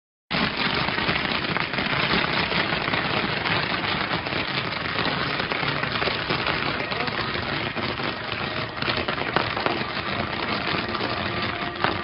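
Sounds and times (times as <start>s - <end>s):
fireworks crackling: 0.3s - 12.0s.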